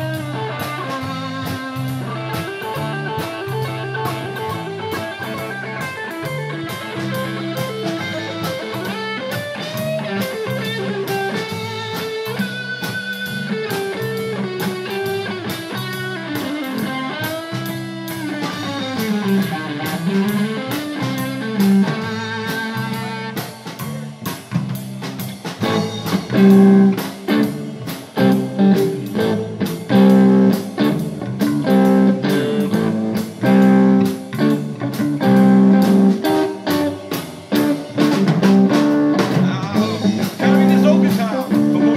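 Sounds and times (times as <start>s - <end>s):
electric guitar bending notes: 0.0s - 41.9s
live blues-rock band playing: 0.0s - 41.9s
steady drumbeat: 0.0s - 41.9s.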